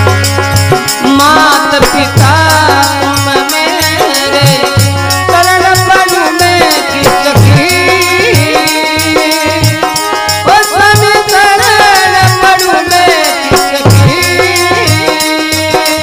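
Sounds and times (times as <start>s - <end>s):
deep drum beats: 0.0s - 16.0s
fast clicking hand percussion: 0.0s - 16.0s.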